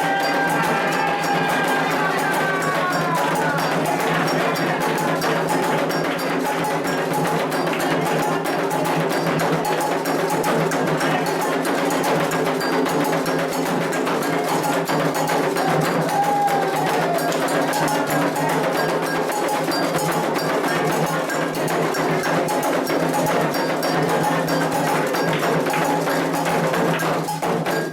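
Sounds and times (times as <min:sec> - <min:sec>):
hand drums fast rhythm: 0:00.0 - 0:27.9.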